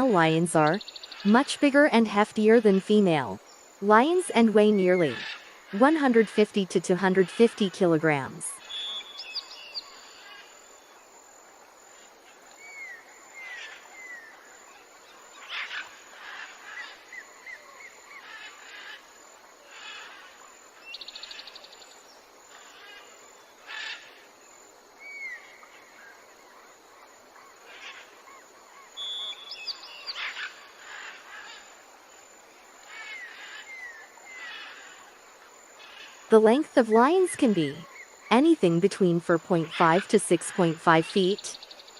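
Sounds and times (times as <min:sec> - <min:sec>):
faint outdoor hiss: 0:00.0 - 0:41.9.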